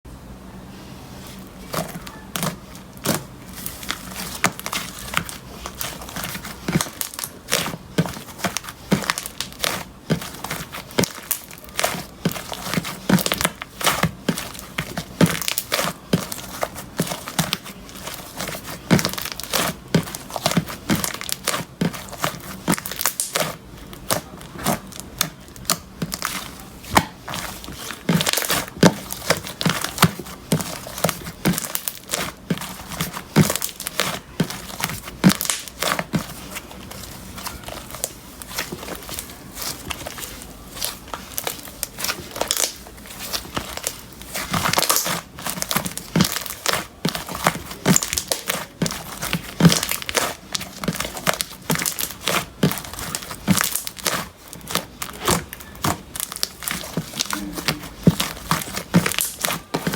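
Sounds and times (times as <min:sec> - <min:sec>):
slime squishing and popping: 0:01.7 - 0:59.9.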